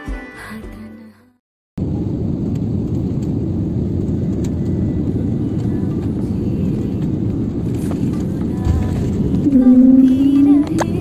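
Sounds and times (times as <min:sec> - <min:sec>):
airliner cabin engine rumble: 0:01.8 - 0:11.0.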